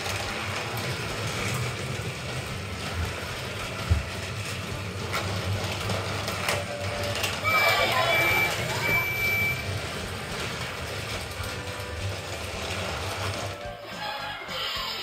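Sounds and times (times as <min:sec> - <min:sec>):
toy train motors whirring: 0:00.0 - 0:15.0.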